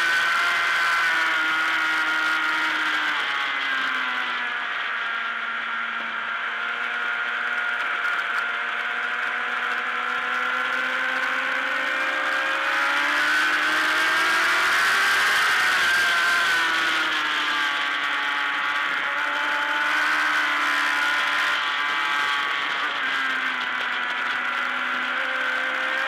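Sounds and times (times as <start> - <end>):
racing motorcycle engine revving: 0.0 - 26.0.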